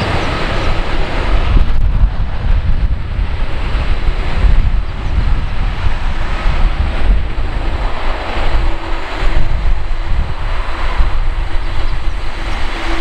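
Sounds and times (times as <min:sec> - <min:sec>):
jet engines running: 0:00.0 - 0:13.0
wind rumble on microphone: 0:00.0 - 0:13.0.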